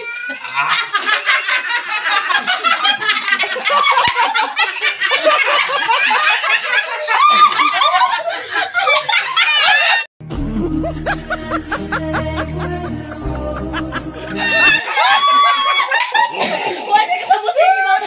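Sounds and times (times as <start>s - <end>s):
group of adults laughing: 0.0s - 18.0s.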